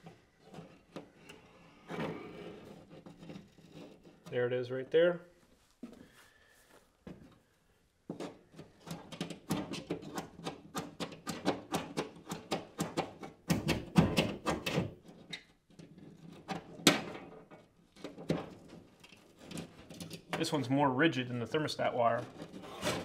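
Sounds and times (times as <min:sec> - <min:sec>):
wire scraping and tapping drywall: 0:00.0 - 0:04.8, 0:08.1 - 0:20.6, 0:21.5 - 0:23.0.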